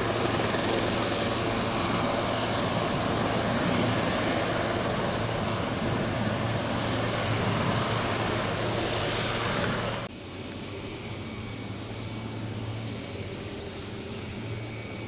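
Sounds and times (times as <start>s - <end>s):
helicopter turbine and rotor noise: 0.0s - 15.0s.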